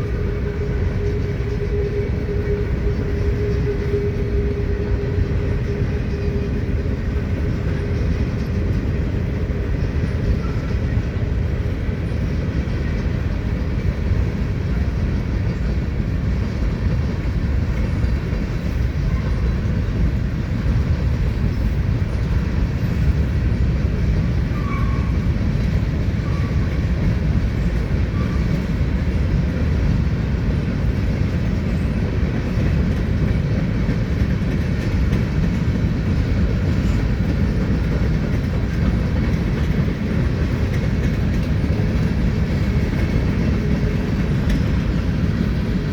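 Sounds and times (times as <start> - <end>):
freight train rumbling and clattering: 0.0 - 45.9.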